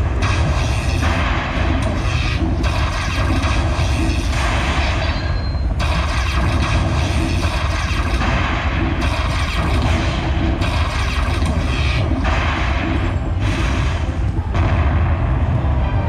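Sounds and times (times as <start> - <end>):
deep steady rumble: 0.0 - 16.0.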